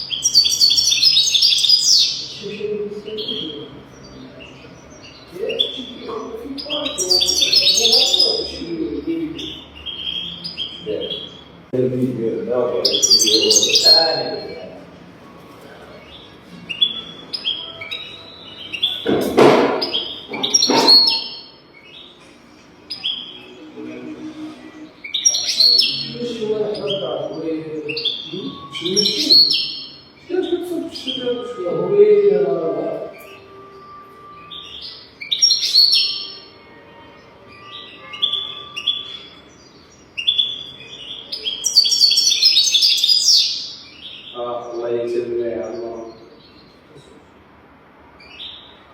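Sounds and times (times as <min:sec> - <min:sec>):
finch twittering song: 0:00.0 - 0:47.0, 0:48.2 - 0:48.9.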